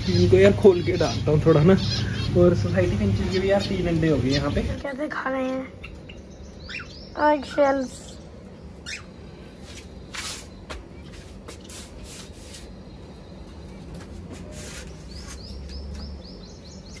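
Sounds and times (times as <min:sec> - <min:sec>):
low steady hum: 0:00.0 - 0:17.0
small cage birds chirping: 0:00.0 - 0:17.0.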